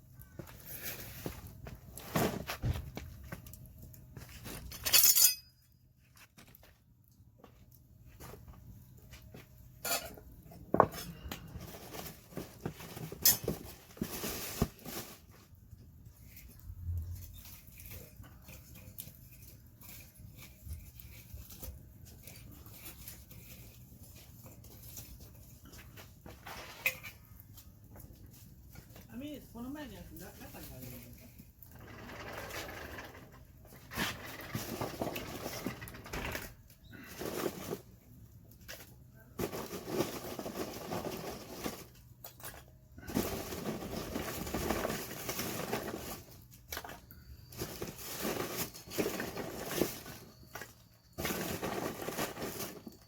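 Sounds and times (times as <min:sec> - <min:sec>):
wood fire crackling: 0:00.0 - 0:04.8, 0:06.1 - 0:53.0.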